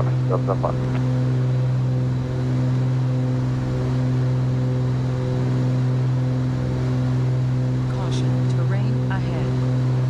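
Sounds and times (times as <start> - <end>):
propeller aircraft engines droning: 0.0 - 10.0.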